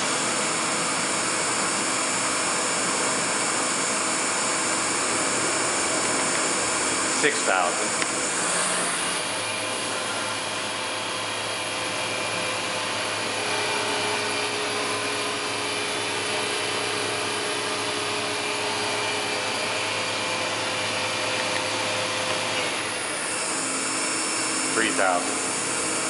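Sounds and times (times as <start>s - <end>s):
machine spindle whirring: 0.0s - 26.0s.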